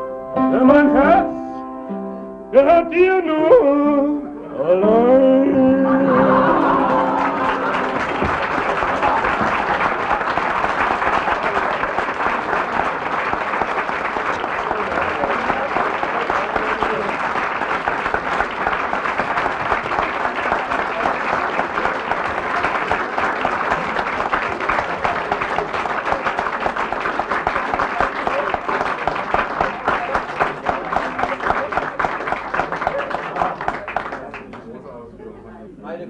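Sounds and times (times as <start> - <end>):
audience applauding: 5.8 - 35.0.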